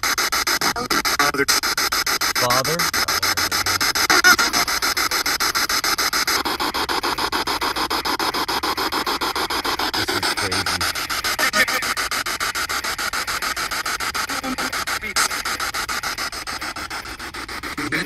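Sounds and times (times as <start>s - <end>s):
faint broadcast voice snatches: 0.0s - 18.0s
pulsing radio static: 0.0s - 18.0s.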